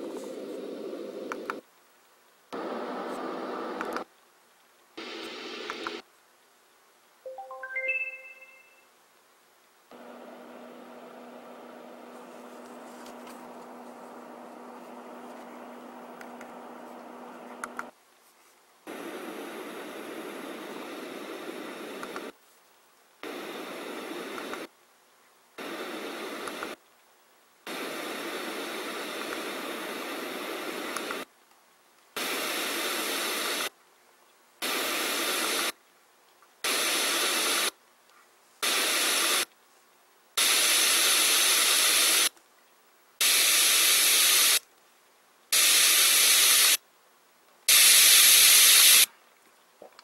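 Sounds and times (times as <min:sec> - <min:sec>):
white noise hiss: 0:00.0 - 0:50.0.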